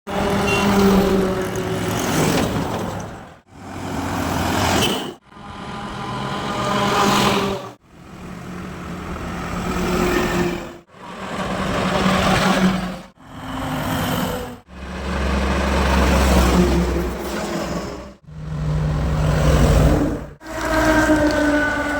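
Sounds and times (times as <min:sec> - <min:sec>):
trucks passing on highway: 0:00.1 - 0:21.9.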